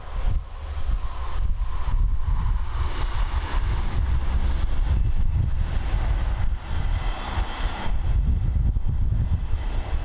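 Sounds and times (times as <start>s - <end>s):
diesel train engine: 0.0s - 10.0s
wind buffeting microphone: 0.0s - 10.0s.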